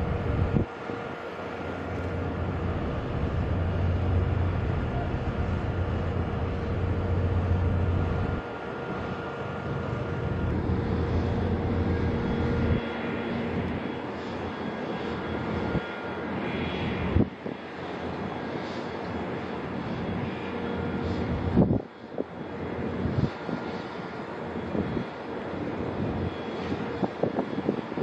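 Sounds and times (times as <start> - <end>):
faint whining tones: 0.0 - 28.0
ship engine drone: 0.0 - 28.0.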